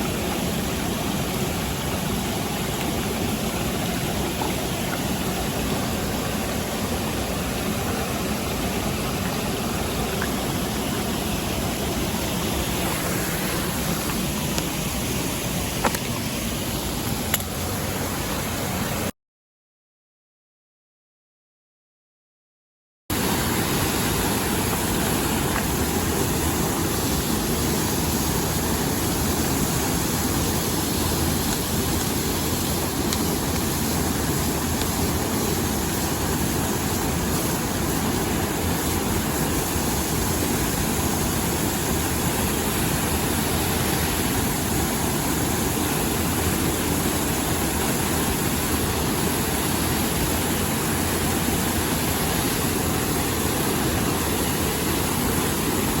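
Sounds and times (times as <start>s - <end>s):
mountain stream rushing: 0.0s - 19.1s, 23.1s - 56.0s.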